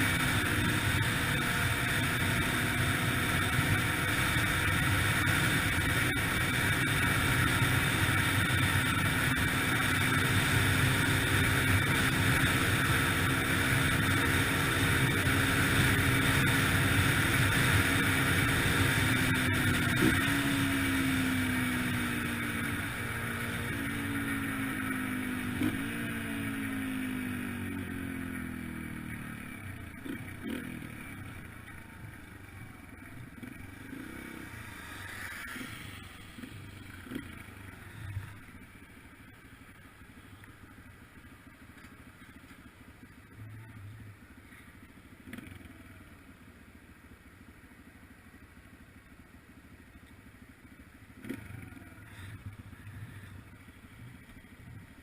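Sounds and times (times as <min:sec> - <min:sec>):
dirt bike engine idling: 0:00.0 - 0:55.0.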